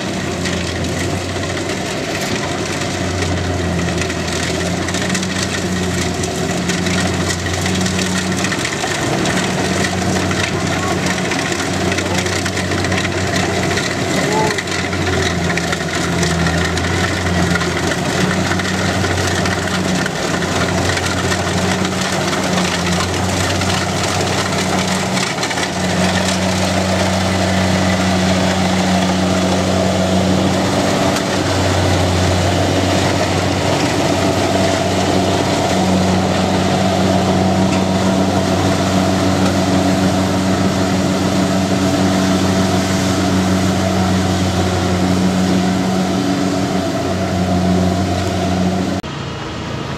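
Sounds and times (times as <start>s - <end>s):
large diesel engine running: 0.0s - 49.9s.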